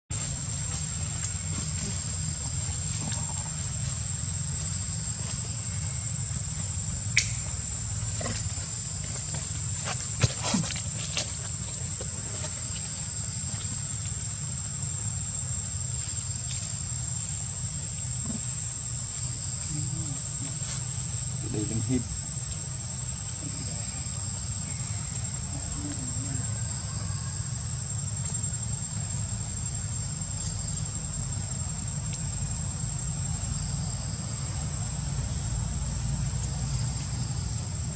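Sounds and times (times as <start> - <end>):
insects droning: 0.1 - 37.9.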